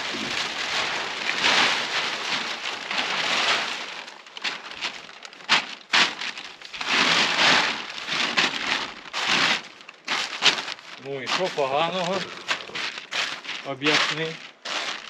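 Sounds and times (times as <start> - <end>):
plastic film rustling and crinkling: 0.0 - 15.0
plastic sheeting crackles: 0.0 - 15.0.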